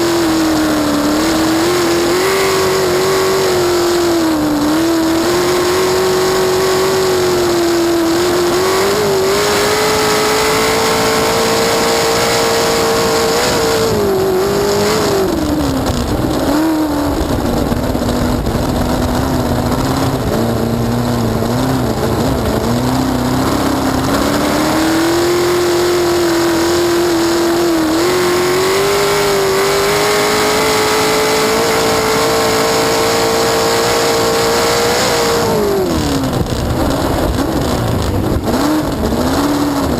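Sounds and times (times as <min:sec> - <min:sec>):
race boat engine revving: 0:00.0 - 0:39.9
rush of noise: 0:00.0 - 0:39.9.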